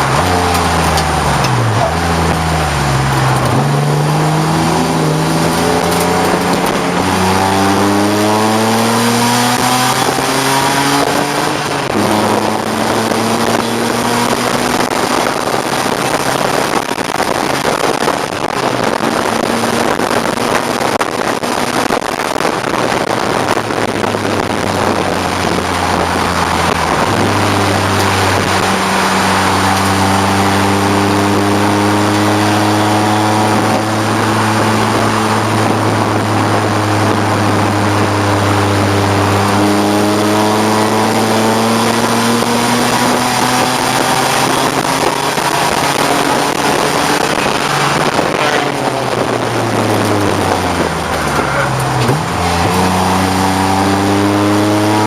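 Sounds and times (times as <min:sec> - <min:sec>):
racing car engine running hard: 0:00.0 - 0:55.0
wind and road noise: 0:00.0 - 0:55.0.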